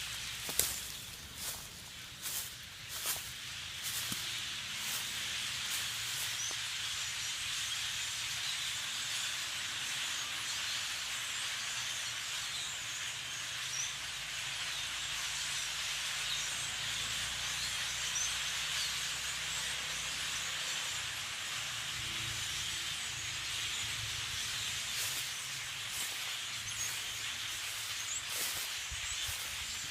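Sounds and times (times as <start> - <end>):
flock of blackbirds chirping: 0.0 - 29.9.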